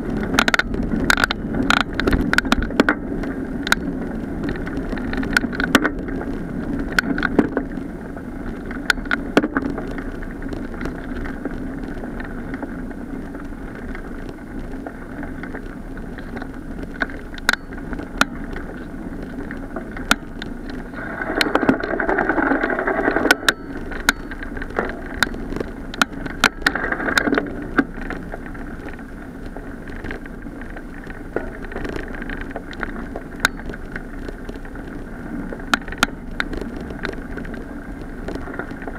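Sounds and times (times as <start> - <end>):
bicycle tyres rolling on gravel: 0.0 - 38.9
bike clicks and knocks: 0.0 - 38.9.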